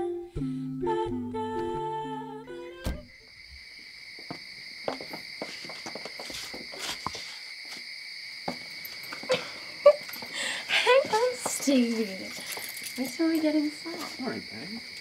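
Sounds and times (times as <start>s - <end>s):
crickets chirping: 0.1s - 15.0s.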